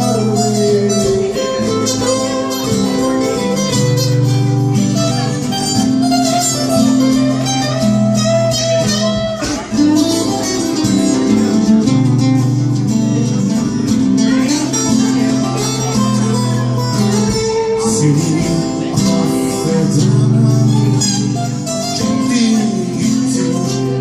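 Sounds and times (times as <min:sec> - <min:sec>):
guitar-led band music: 0:00.0 - 0:24.0.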